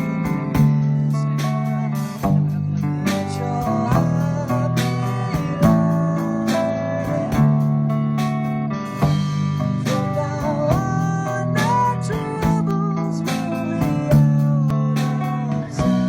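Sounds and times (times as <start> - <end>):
drums steady beat: 0.0 - 16.0
electric guitar with bent notes: 0.0 - 16.0
sustained bass notes: 0.0 - 16.0.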